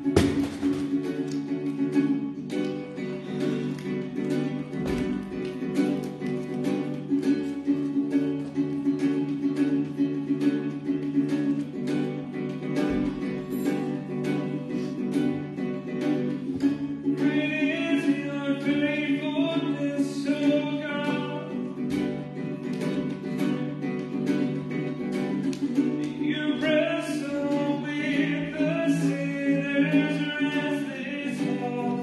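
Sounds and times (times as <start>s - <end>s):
guitar playing instrumental: 0.0s - 32.0s.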